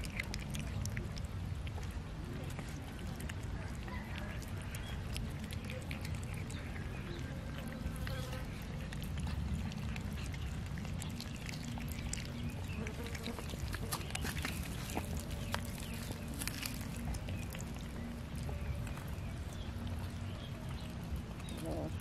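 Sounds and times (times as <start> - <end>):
cats chewing wet smacks: 0.0 - 22.0
steady low rumble: 0.0 - 22.0.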